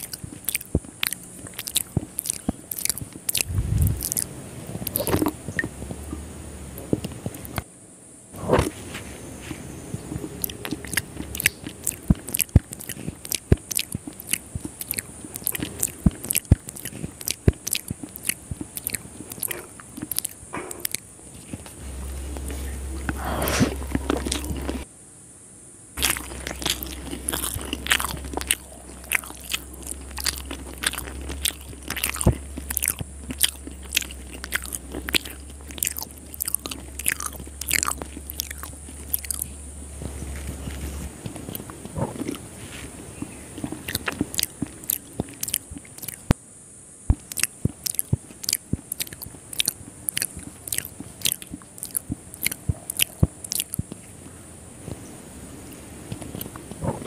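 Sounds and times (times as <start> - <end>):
wet chewing mouth sounds: 0.0 - 7.7, 9.9 - 24.9, 26.0 - 46.4, 47.1 - 54.3, 56.0 - 57.0.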